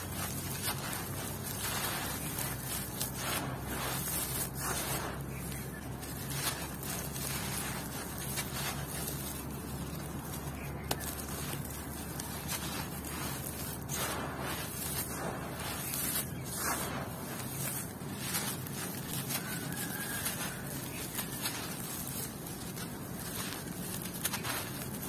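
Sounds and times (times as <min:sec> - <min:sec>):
dry dirt crushed by hand: 0:00.0 - 0:25.0
grit pouring onto gravelly soil: 0:00.0 - 0:25.0.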